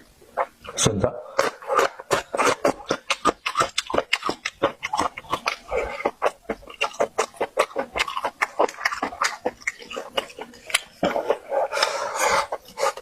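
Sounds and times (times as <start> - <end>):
wet chewing and mouth smacking: 0.0 - 13.0.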